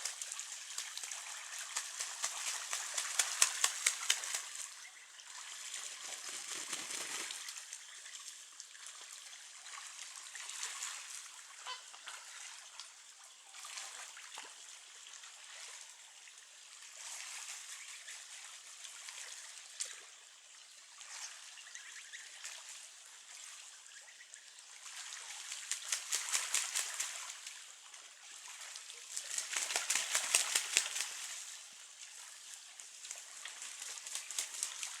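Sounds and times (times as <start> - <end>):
stream trickling and splashing: 0.0 - 35.0.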